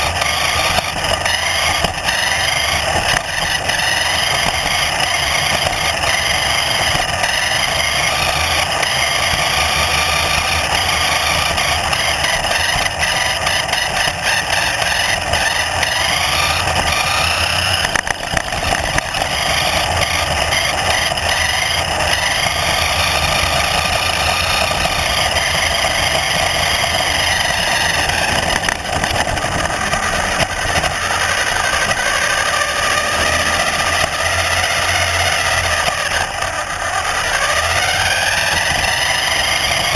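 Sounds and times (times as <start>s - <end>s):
motor whine gliding in pitch: 0.0s - 39.9s.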